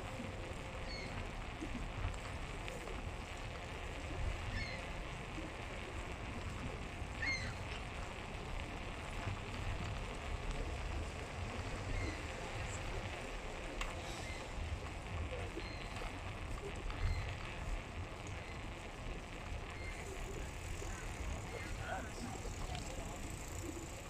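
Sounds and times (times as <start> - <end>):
road noise from moving bike: 0.0 - 24.0.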